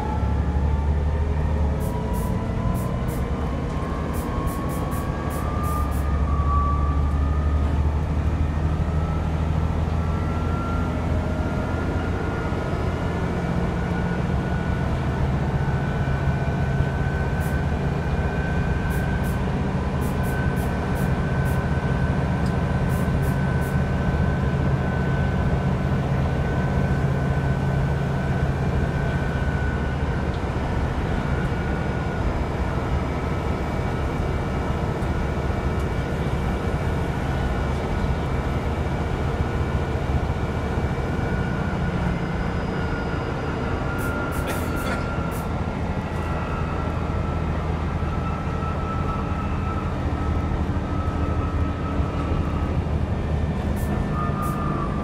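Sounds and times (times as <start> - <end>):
bus engine low drone: 0.0 - 55.0.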